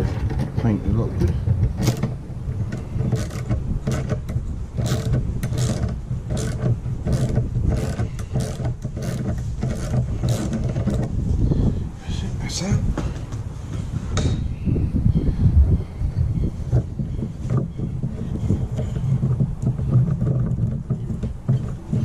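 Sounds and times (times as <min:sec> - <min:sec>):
steady low rumble: 0:00.0 - 0:21.1.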